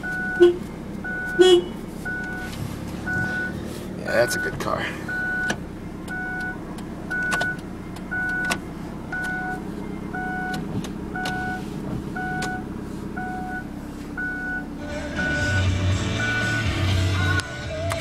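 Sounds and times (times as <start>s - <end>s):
dashboard warning chime beeping: 0.0s - 16.8s
car engine idling: 0.0s - 18.0s.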